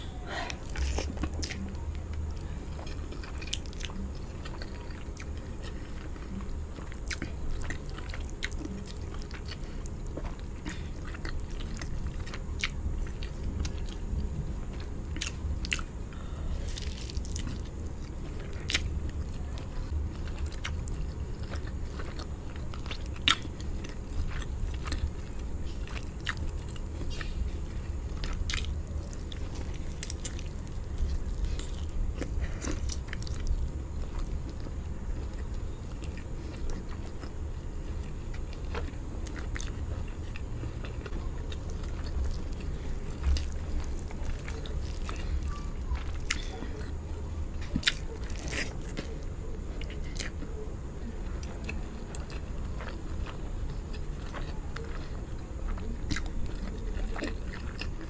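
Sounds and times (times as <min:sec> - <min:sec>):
low steady hum: 0:00.0 - 0:58.0
person chewing and biting food: 0:00.4 - 0:58.0.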